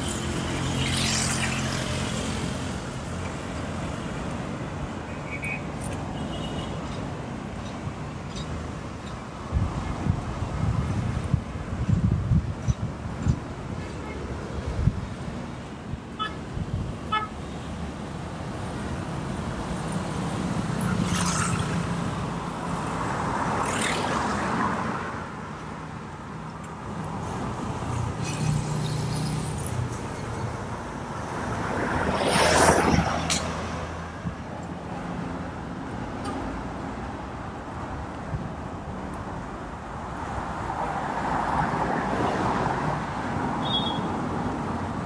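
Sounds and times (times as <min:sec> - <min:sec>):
vehicles driving past: 0:00.0 - 0:45.0.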